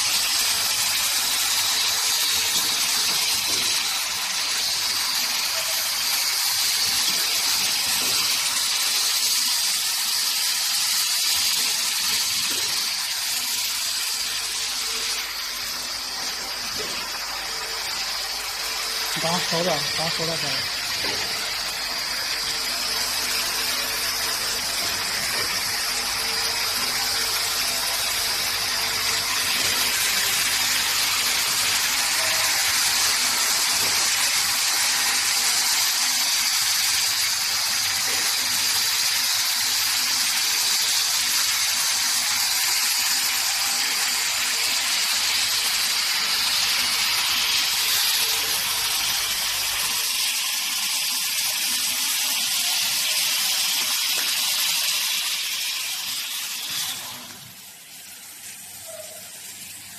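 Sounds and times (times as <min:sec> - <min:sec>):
loud even machinery hiss: 0:00.0 - 0:58.2
low hum of conveyor machinery: 0:00.0 - 0:59.9.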